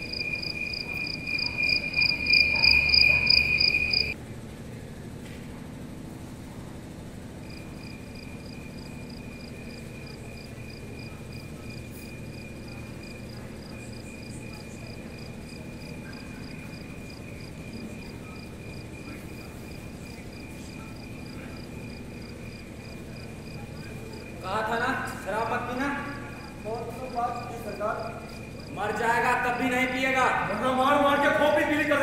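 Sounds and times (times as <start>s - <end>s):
crickets chirping: 0.0s - 4.2s, 7.3s - 32.0s
low room hum: 0.0s - 32.0s.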